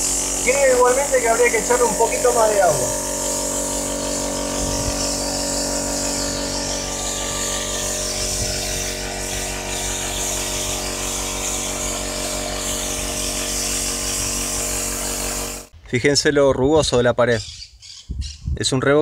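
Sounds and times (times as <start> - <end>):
spray gun hissing: 0.0 - 15.7
air compressor humming: 0.0 - 15.8.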